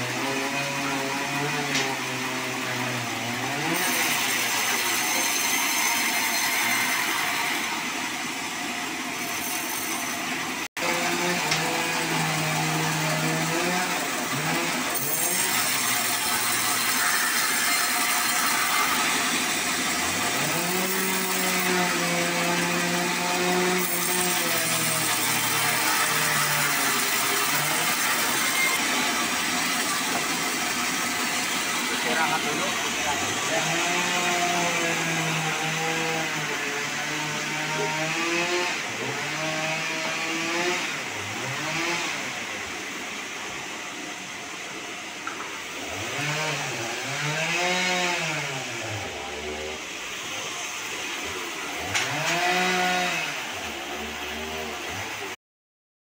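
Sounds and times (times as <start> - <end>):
band saw blade rasping: 0.0 - 42.3, 45.2 - 55.3
band saw motor hum: 0.0 - 55.4.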